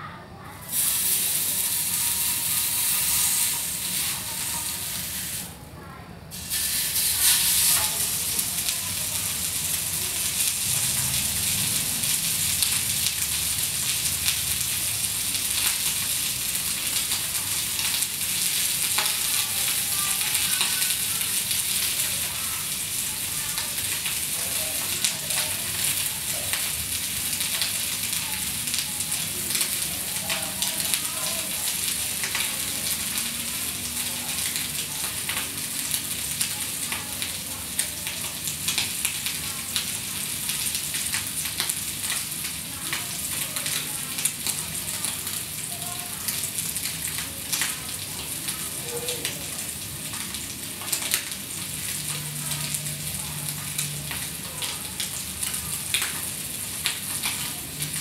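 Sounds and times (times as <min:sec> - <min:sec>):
meat sizzling in a pan: 0:00.5 - 0:05.6, 0:06.3 - 0:58.0.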